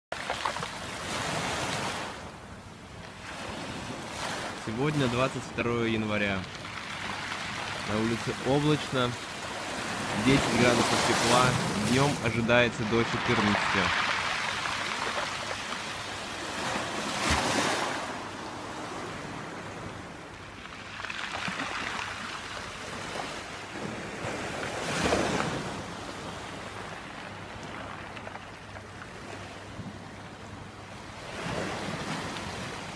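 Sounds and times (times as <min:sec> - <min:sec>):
small waves breaking on pebbles: 0:00.1 - 0:02.2, 0:03.1 - 0:29.8.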